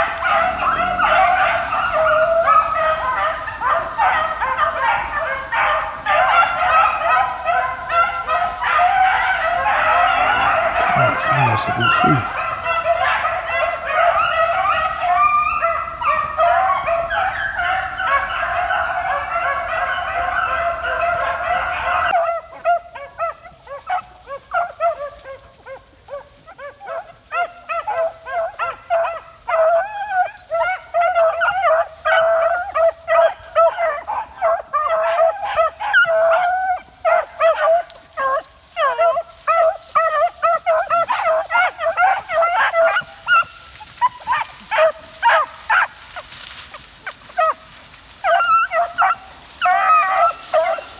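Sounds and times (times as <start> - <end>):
dogs baying: 0.0 - 50.9.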